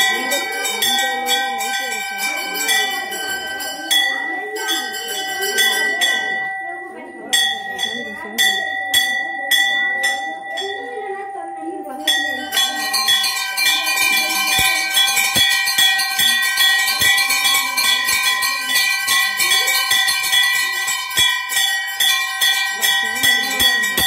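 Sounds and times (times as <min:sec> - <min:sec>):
bells rung rapidly: 0:00.0 - 0:24.0.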